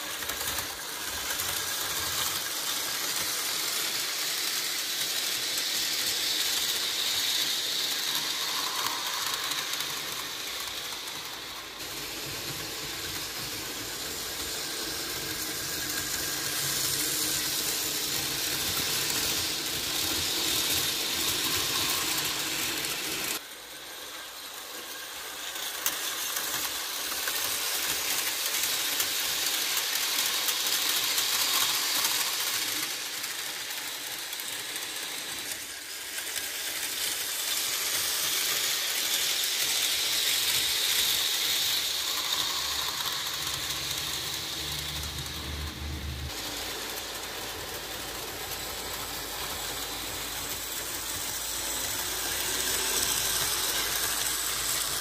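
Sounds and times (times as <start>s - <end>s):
model train motor whirring: 0.0s - 55.0s
wheel and track noise: 0.0s - 55.0s.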